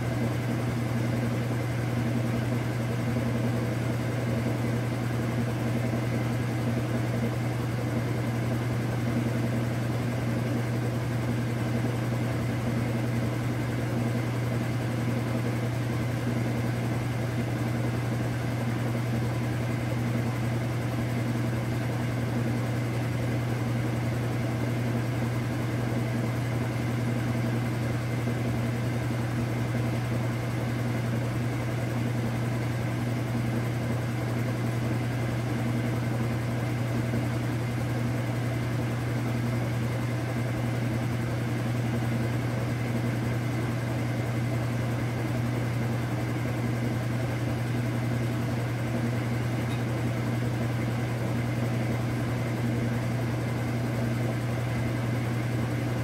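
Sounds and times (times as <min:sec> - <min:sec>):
turning tub whirring: 0:00.0 - 0:56.0
washing machine motor hum: 0:00.0 - 0:56.0.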